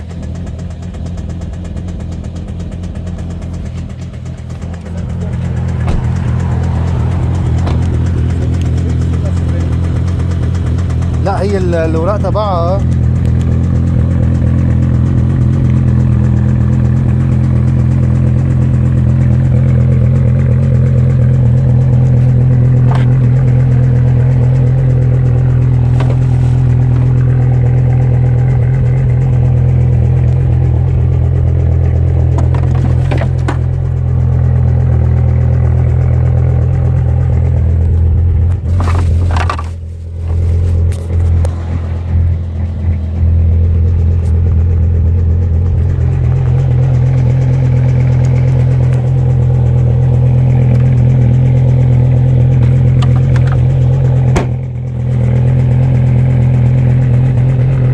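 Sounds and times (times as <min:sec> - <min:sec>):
car engine idling with knock: 0:00.0 - 0:57.9.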